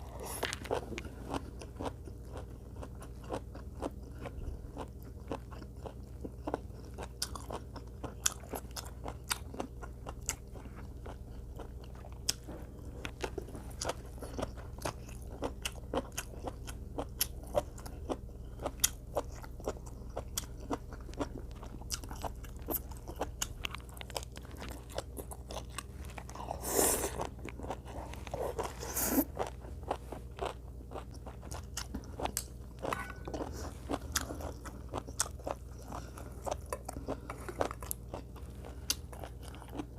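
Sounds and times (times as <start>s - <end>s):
person chewing and biting: 0.0s - 39.9s.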